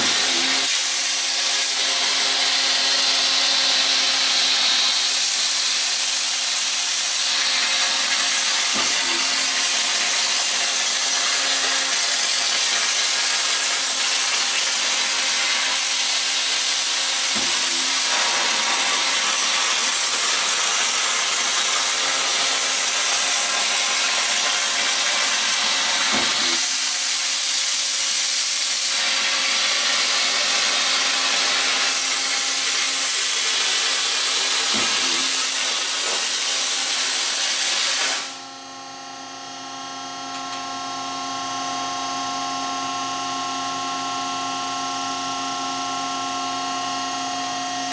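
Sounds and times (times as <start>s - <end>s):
water jet hissing: 0.0s - 38.4s.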